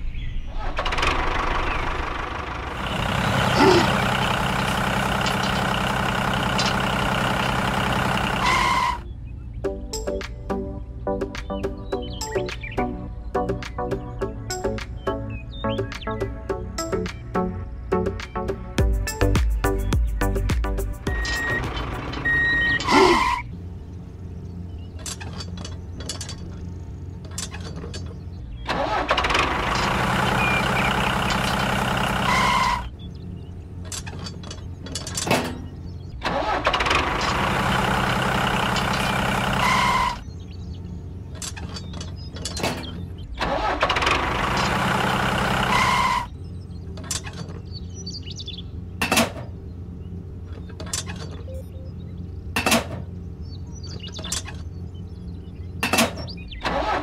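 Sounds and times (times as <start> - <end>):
tractor engine idling: 0.4 - 9.2, 18.8 - 57.0.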